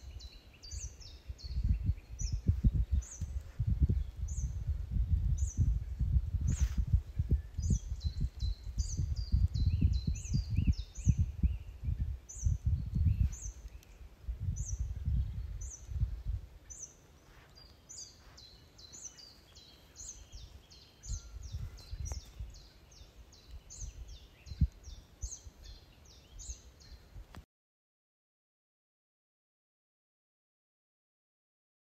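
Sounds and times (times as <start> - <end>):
birds singing high chirps: 0.0 - 27.2
wind buffeting microphone: 0.0 - 27.4.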